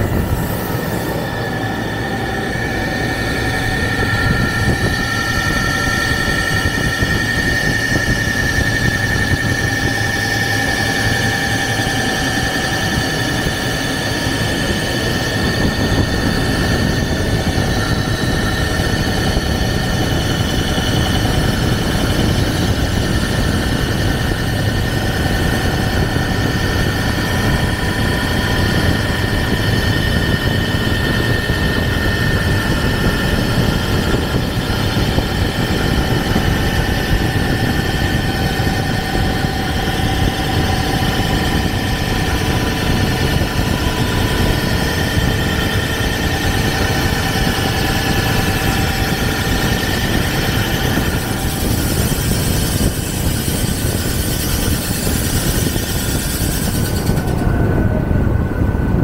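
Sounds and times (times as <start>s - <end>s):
lathe machining whine: 0.0s - 59.0s.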